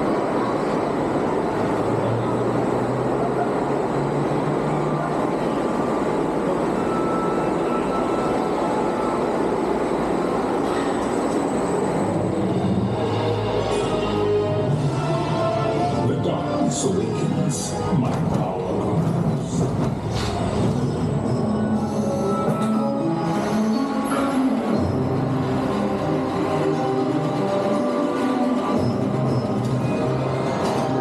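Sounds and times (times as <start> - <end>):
roller coaster rumbling on track: 0.0 - 31.0.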